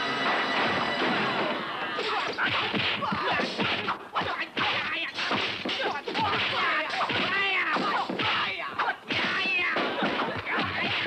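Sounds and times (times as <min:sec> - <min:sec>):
punch and kick whacks: 0:02.1 - 0:11.0.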